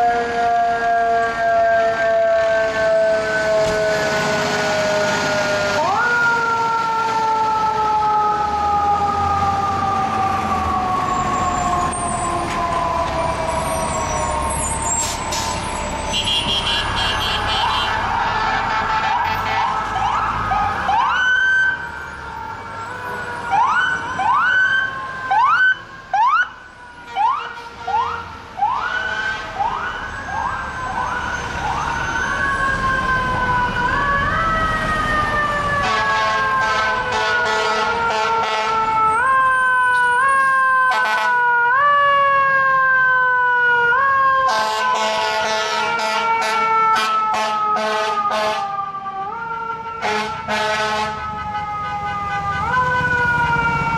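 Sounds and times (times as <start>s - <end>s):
fire engine siren wailing: 0.0s - 53.9s.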